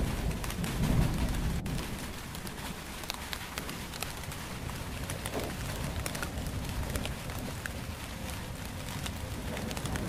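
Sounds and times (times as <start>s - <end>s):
low continuous rumble: 0.0s - 10.0s
rain falling: 0.0s - 10.0s
raindrops ticking: 0.0s - 10.0s.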